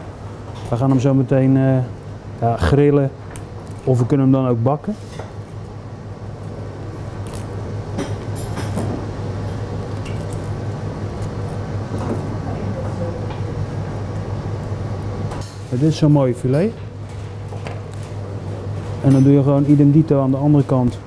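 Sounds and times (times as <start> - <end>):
kitchen mechanical hum: 0.0 - 21.0.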